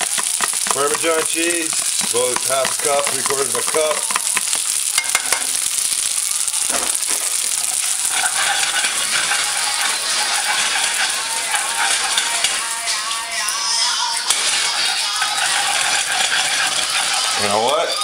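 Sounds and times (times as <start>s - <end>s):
metal tongs scraping a pan: 0.0s - 5.9s, 6.9s - 18.0s
spaghetti sizzling in a frying pan: 0.0s - 18.0s.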